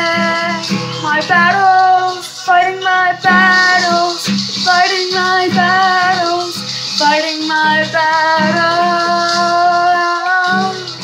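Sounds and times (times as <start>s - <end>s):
boy singing wordless notes: 0.0s - 11.0s
pop-rock backing track: 0.0s - 11.0s
shaker rattling: 0.0s - 11.0s.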